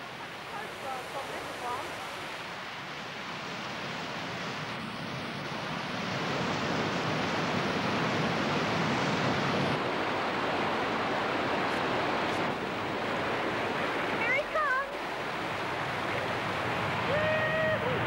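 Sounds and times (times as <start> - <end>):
big waterfall and whitewater rushing: 0.0 - 18.0.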